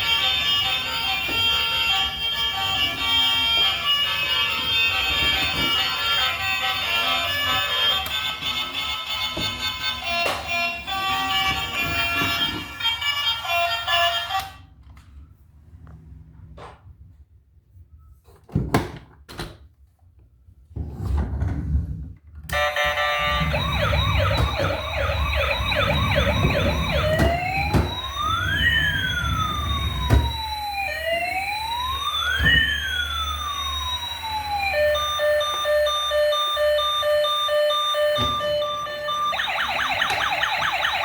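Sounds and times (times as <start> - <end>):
toy siren warbling and wailing: 0.0 - 14.6, 22.5 - 41.0.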